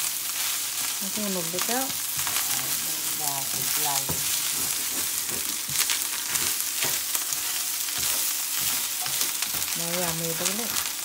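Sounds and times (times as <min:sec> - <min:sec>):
rice sizzling in a hot pan: 0:00.0 - 0:11.0
spatula scraping a pan: 0:00.3 - 0:11.0.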